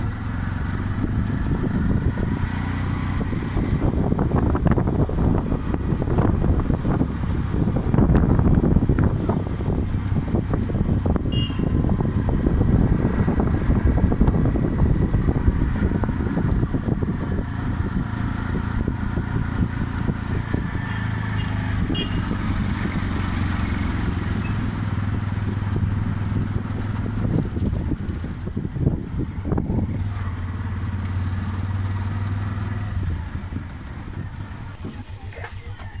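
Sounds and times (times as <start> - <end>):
auto-rickshaw engine running: 0.0 - 36.0.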